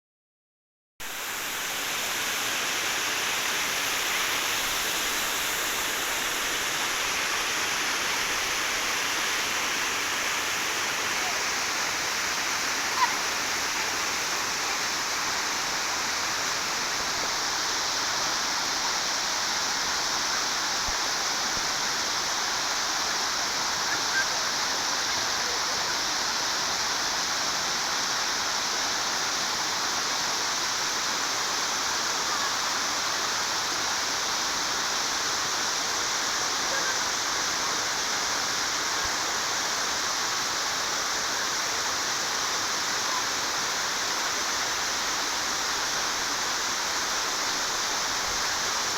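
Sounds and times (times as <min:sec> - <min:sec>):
water rushing at a dam: 0:01.0 - 0:48.9.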